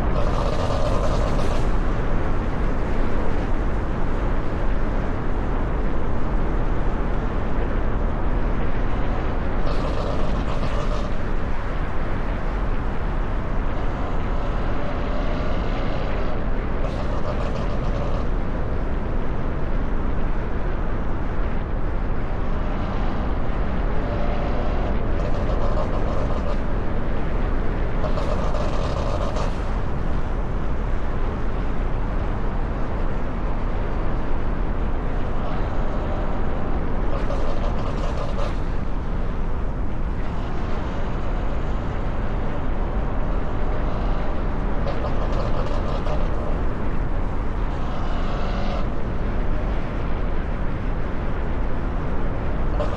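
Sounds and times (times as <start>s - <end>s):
car engine noise: 0.0s - 52.9s
wind and road rush: 0.0s - 52.9s.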